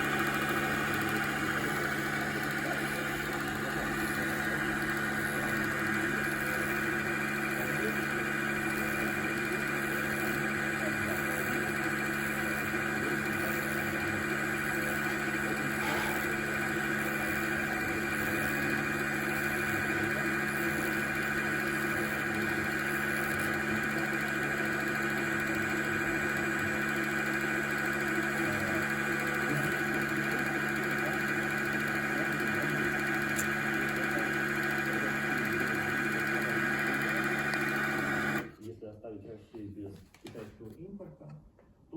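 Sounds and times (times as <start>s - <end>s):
machine motors humming: 0.0s - 38.6s.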